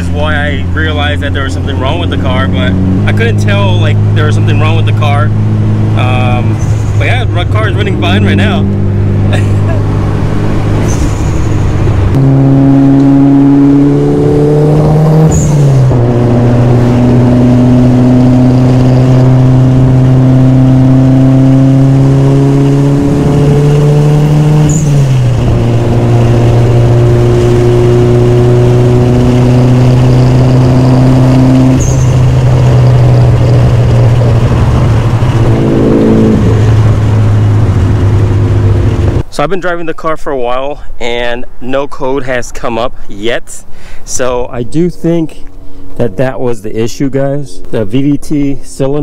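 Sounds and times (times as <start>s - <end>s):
turbocharged car engine accelerating: 0.0s - 39.4s.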